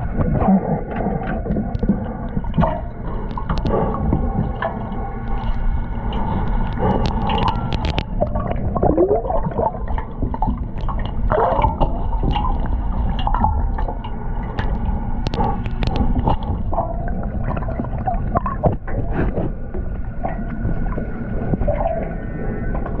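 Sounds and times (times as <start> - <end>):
underwater gurgling and bubbles: 0.0 - 23.0.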